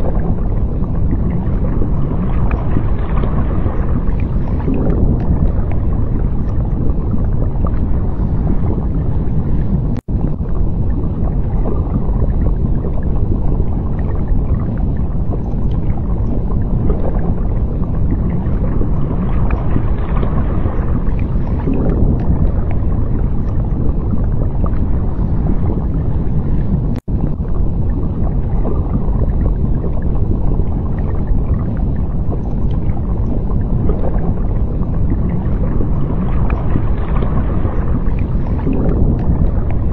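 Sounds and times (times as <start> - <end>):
underwater rumble: 0.0 - 39.9.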